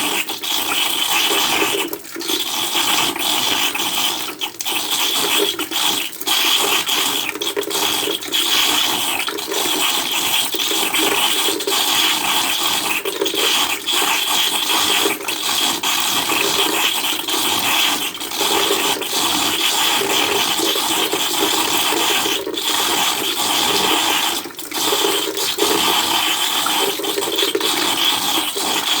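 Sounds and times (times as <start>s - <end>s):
rainwater pouring into plastic container: 0.0s - 29.0s.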